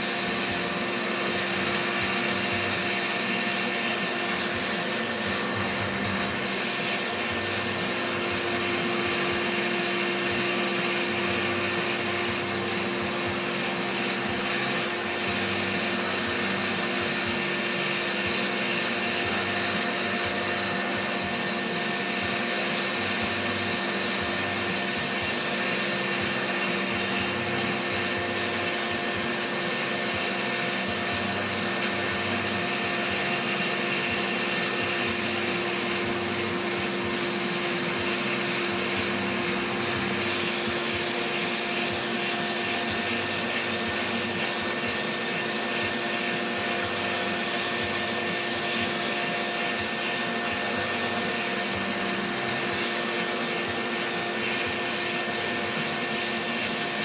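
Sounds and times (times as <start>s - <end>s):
milling machine spindle whine: 0.0s - 57.0s.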